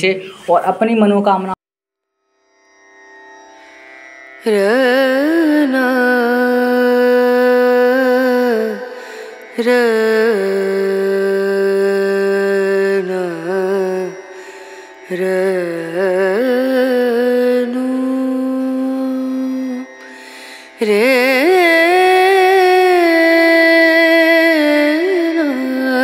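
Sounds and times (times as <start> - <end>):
devotional melody with ornaments: 2.8 - 26.0.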